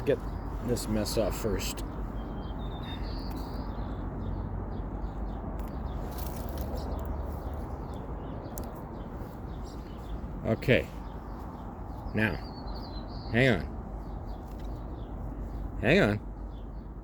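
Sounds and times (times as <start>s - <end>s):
small bird chirping: 0.1s - 17.0s.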